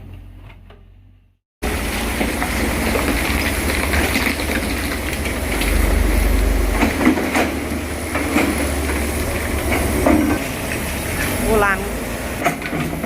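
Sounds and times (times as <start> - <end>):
excavator diesel engine running: 1.6 - 13.0.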